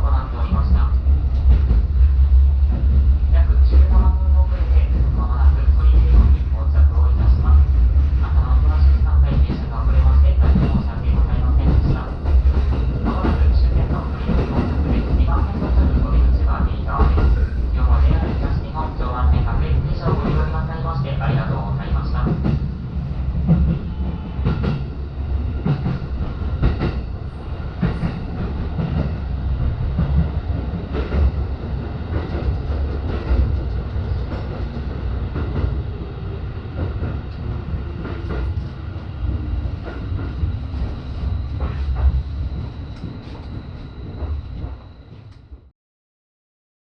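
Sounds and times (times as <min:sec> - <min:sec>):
train rumbling: 0:00.0 - 0:45.7.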